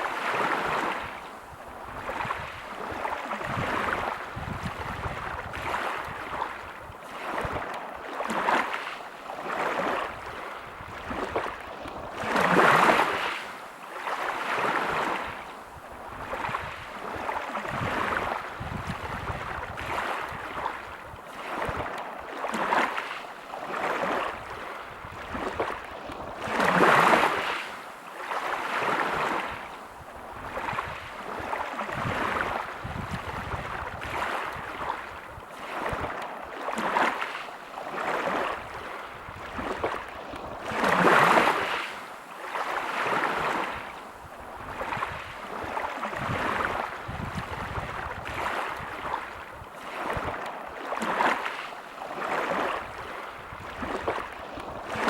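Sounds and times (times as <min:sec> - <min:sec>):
waves breaking on pebble beach: 0:00.0 - 0:15.4, 0:16.2 - 0:29.6, 0:30.4 - 0:55.0.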